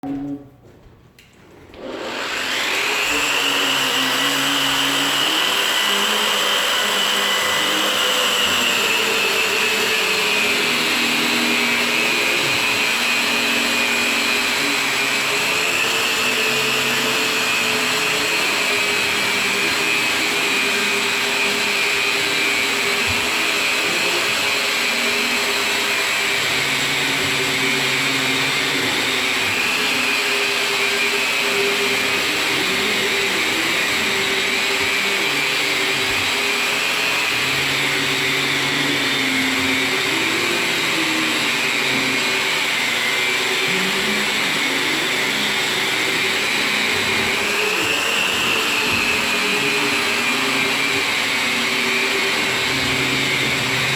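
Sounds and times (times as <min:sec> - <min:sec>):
electric drywall sander whining: 0:00.0 - 0:53.9.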